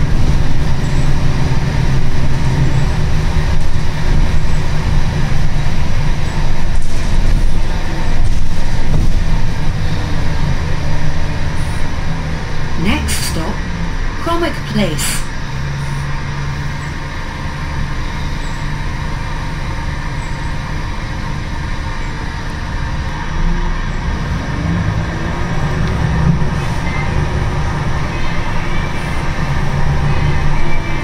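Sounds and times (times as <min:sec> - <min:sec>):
bus diesel engine drone: 0:00.0 - 0:31.0.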